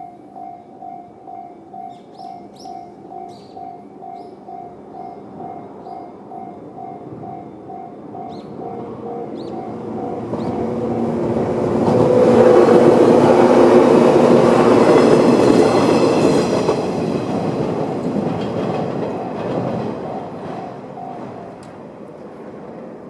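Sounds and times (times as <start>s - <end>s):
level crossing warning bell: 0.0s - 21.6s
electric train passing: 0.0s - 23.0s.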